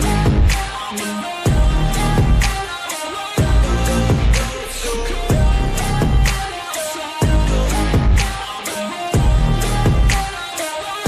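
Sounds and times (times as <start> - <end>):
instrumental pop music with bass: 0.0 - 11.0.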